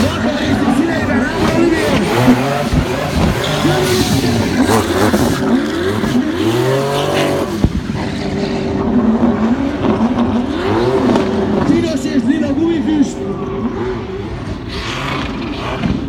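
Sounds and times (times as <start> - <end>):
car engine revving hard: 0.0 - 16.0
tyres spinning and sliding: 0.0 - 16.0.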